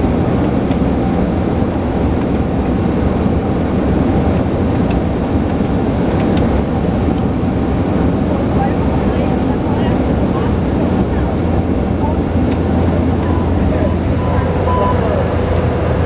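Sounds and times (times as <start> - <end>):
aircraft cabin engine noise: 0.0 - 16.0.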